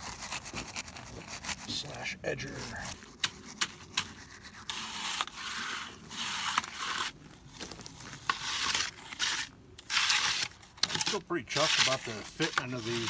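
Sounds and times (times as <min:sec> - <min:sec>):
trowel scraping wet concrete: 0:00.0 - 0:13.0.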